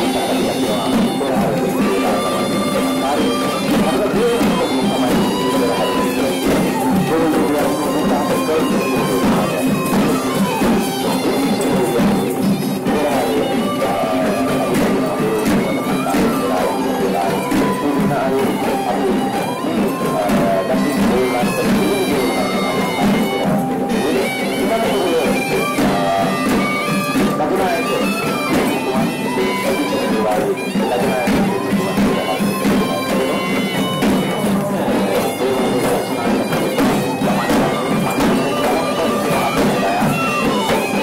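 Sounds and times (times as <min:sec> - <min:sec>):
drums playing: 0:00.0 - 0:41.0
shrill reed pipe melody: 0:00.0 - 0:41.0.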